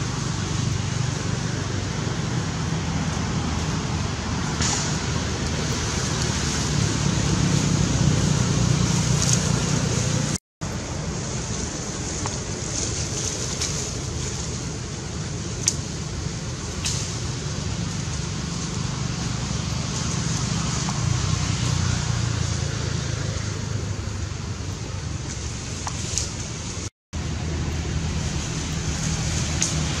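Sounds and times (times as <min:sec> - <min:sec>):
outdoor rumble and hiss: 0:00.0 - 0:30.0.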